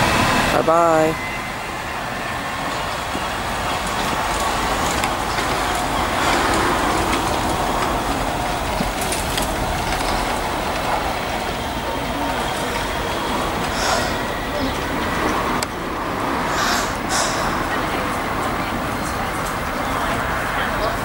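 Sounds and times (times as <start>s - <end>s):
electric train pulling away: 0.0s - 21.0s.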